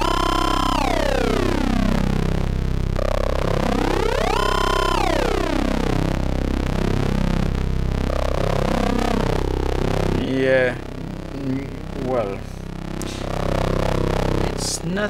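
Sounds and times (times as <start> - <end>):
buzzy synthesizer drone: 0.0 - 15.0.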